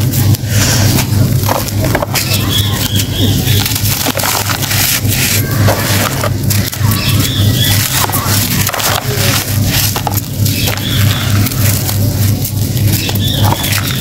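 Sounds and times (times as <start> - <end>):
hands crunching compacted sand: 0.0 - 14.0
low hum: 0.0 - 14.0.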